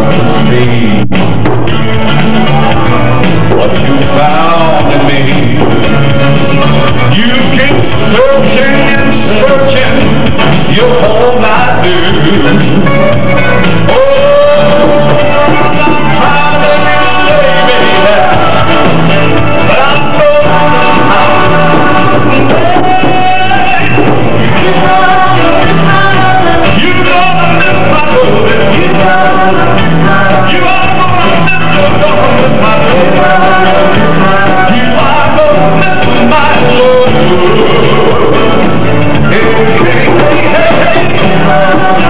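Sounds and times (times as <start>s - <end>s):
man singing into microphone: 0.0s - 1.1s, 3.4s - 42.0s
live band playing: 0.0s - 42.0s.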